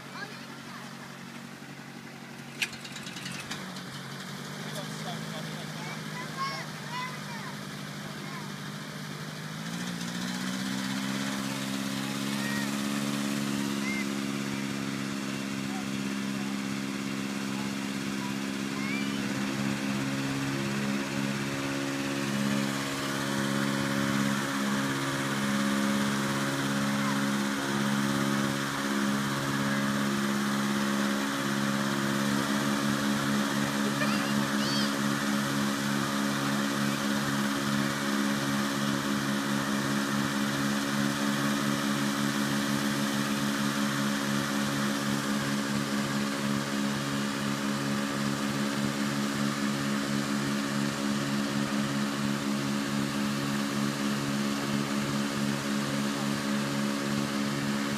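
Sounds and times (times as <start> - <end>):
engine hum: 0.0 - 57.9
fan blowing air: 0.0 - 57.9.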